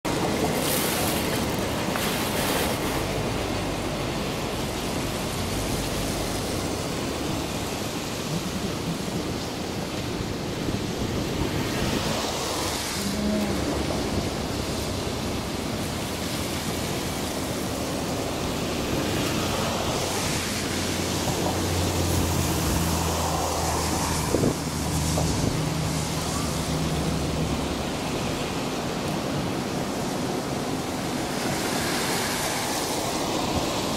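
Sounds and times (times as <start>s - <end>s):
freight train rumbling past: 0.1s - 33.9s
wind noise on microphone: 0.1s - 33.9s.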